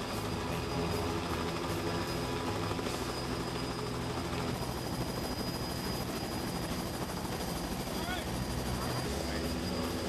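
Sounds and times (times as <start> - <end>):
thin high whine: 0.0 - 7.2, 7.9 - 10.0
helicopter hovering: 0.0 - 10.0.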